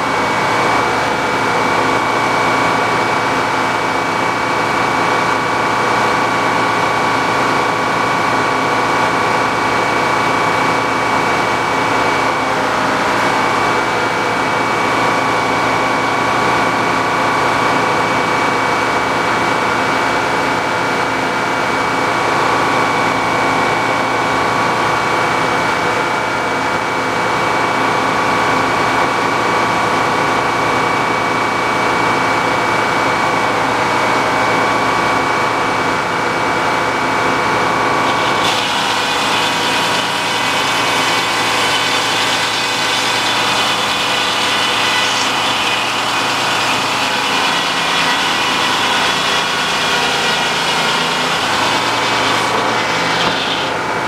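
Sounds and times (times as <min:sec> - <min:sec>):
sawmill blade humming: 0:00.0 - 0:54.0.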